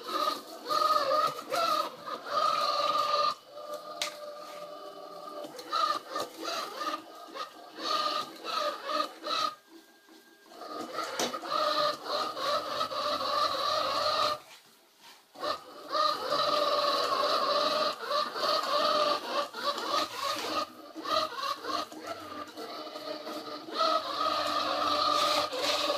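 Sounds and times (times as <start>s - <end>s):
robot vacuum motor whine: 0.0s - 14.5s, 15.4s - 25.9s.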